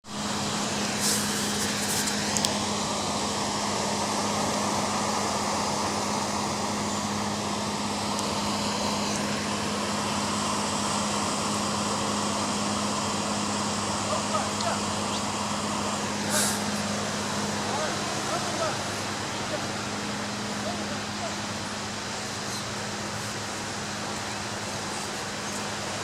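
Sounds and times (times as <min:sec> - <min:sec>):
ocean surf roar: 0:00.0 - 0:26.0
steady low hum: 0:00.0 - 0:26.0.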